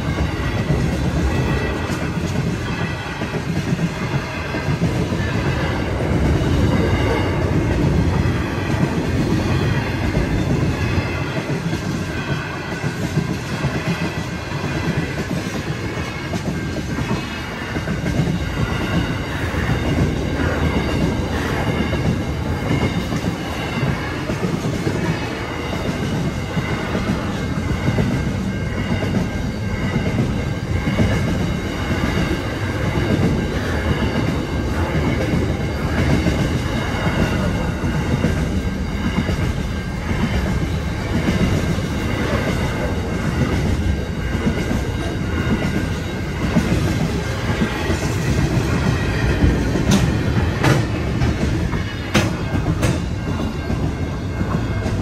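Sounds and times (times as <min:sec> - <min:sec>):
level crossing warning bell: 0:00.0 - 0:55.0
train wheels clacking over rails: 0:00.0 - 0:55.0.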